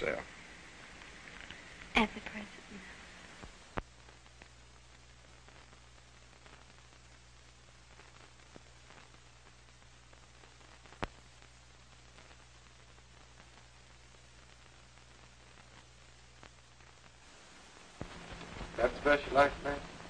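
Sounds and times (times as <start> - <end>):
film soundtrack hiss and hum: 0.0 - 20.0.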